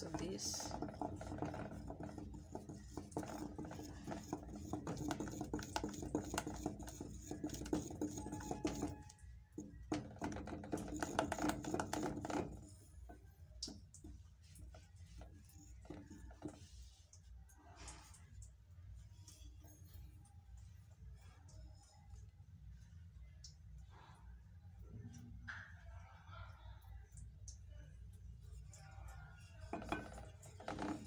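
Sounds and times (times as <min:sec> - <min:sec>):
wooden spoon stirring in a saucepan: 0:00.0 - 0:25.8, 0:28.0 - 0:31.0.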